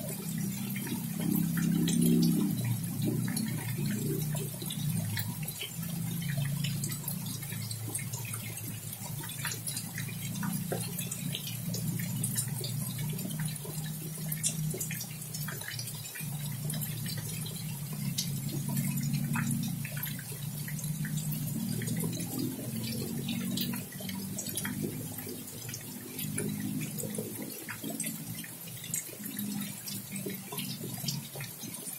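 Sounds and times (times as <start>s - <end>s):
close drips and splashes: 0.0s - 31.9s
low steady hum: 0.0s - 31.9s
steady rain: 0.0s - 31.9s.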